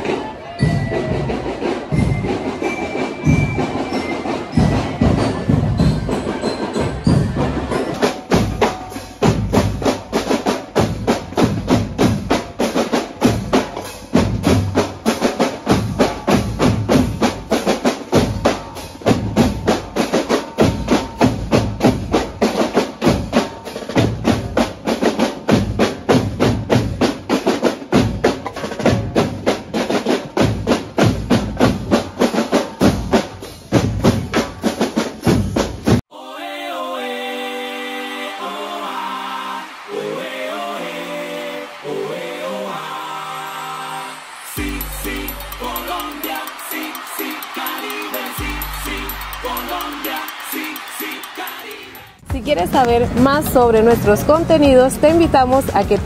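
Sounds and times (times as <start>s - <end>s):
marching drum band: 0.0s - 36.0s, 44.6s - 56.0s.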